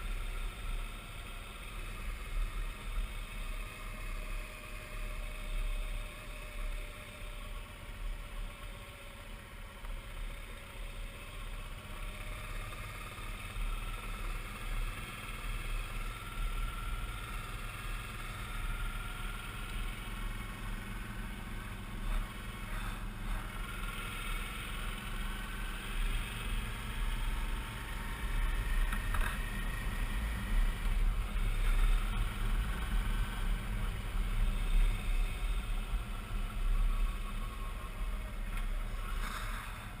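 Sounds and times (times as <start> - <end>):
faint engine whine: 0.0 - 40.0
motorcycle engine running: 0.0 - 40.0.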